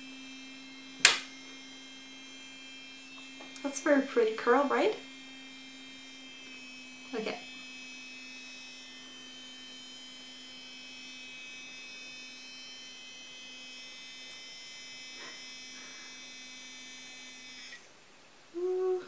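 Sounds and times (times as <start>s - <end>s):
high-pitched whining tones: 0.0s - 17.8s
steady electrical hum: 0.0s - 19.0s.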